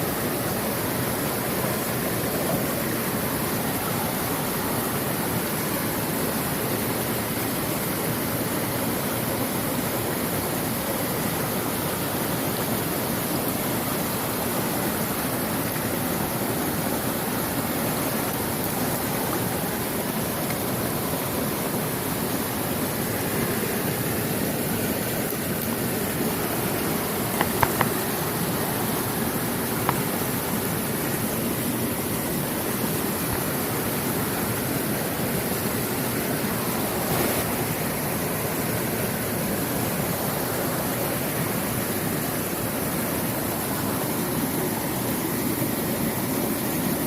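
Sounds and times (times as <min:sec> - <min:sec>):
water rushing over rocks: 0:00.0 - 0:47.0.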